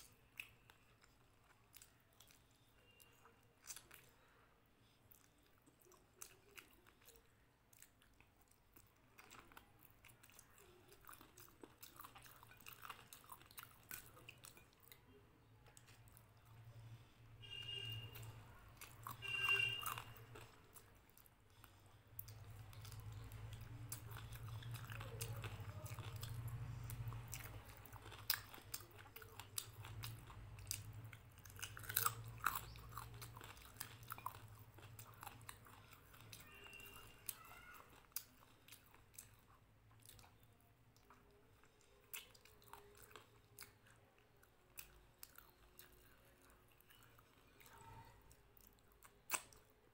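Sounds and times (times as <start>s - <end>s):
chewing and biting food: 0.0s - 49.9s.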